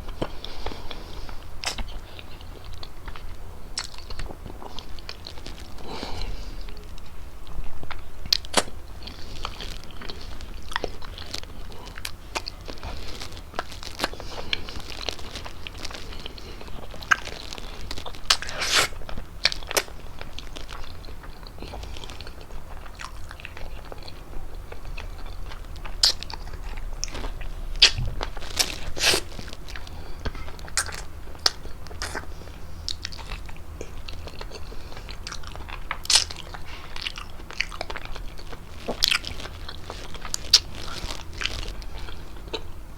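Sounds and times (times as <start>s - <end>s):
wet chewing mouth sounds: 0.0s - 42.8s.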